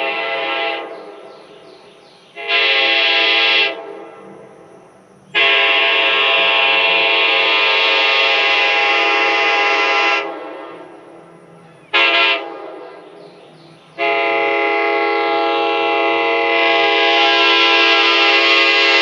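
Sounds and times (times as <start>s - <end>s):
train horn chord blasts: 0.0s - 1.1s, 2.4s - 4.4s, 5.3s - 13.4s, 14.0s - 19.0s.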